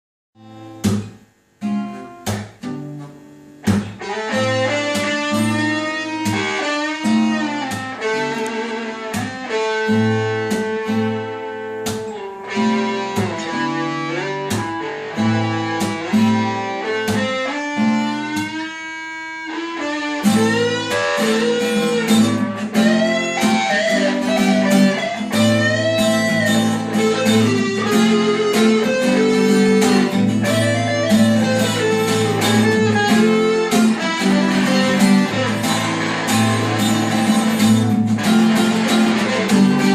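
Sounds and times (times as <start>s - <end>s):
guitar melody with bends: 0.4s - 39.9s.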